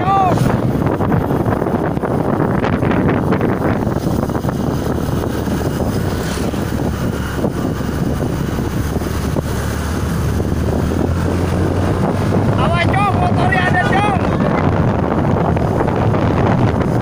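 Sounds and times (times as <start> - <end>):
motorcycle engine at speed: 0.0 - 17.0
wind buffeting microphone: 0.0 - 17.0.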